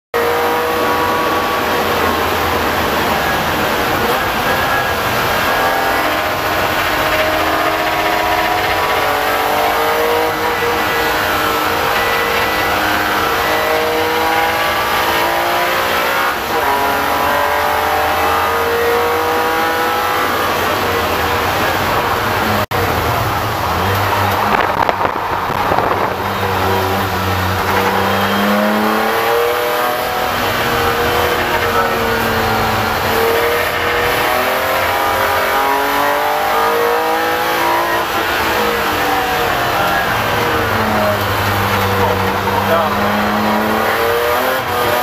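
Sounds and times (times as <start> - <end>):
race car engine revving: 0.1 - 45.0.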